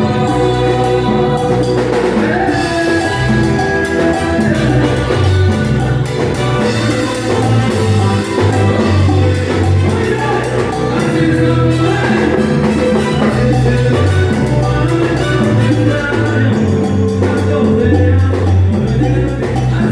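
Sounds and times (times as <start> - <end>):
salsa band playing: 0.0 - 19.9.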